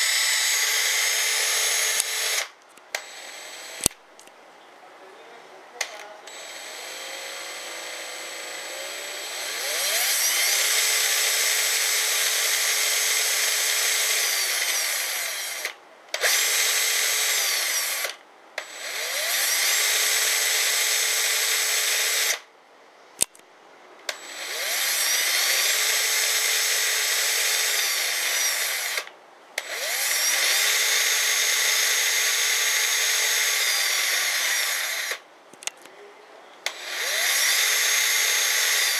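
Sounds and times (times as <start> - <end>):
cordless drill motor whine: 0.0 - 4.0, 6.3 - 22.5, 24.1 - 35.2, 36.6 - 38.9.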